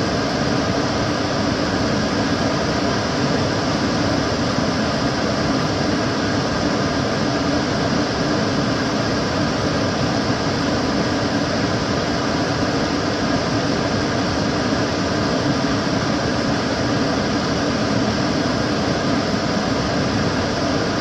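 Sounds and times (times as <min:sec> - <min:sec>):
cooker hood extractor fan running: 0:00.0 - 0:21.0.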